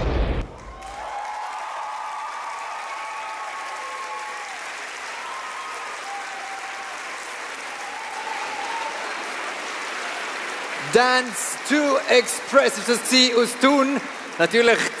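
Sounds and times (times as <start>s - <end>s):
audience applauding: 0.4s - 15.0s
high cheering voices: 0.5s - 15.0s.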